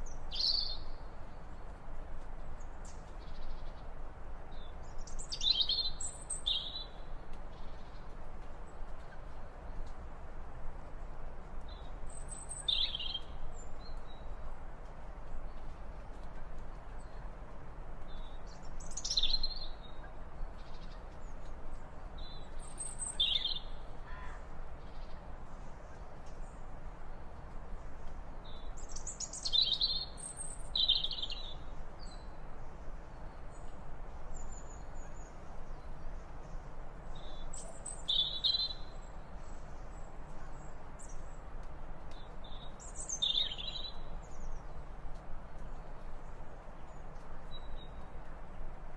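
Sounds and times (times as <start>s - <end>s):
outdoor background hiss: 0.0s - 48.9s.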